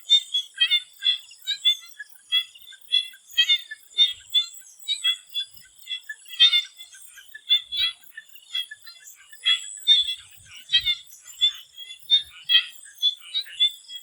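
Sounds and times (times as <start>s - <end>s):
frogs croaking in chorus: 0.0s - 14.0s.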